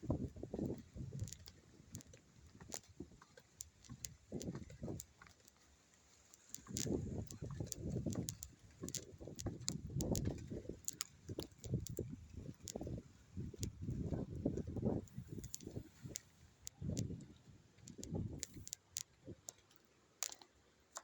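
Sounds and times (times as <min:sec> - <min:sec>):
sharp clicks: 0:00.6 - 0:05.6, 0:06.3 - 0:17.1, 0:17.8 - 0:21.0.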